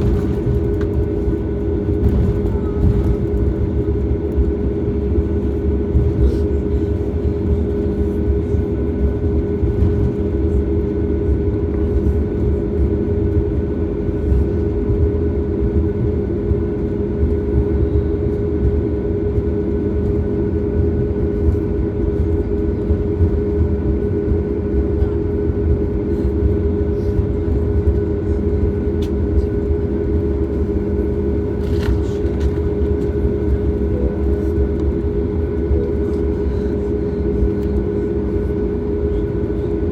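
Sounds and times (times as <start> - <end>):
aircraft cabin engine rumble: 0.0 - 39.9
engine hum of fixed tones: 0.0 - 39.9.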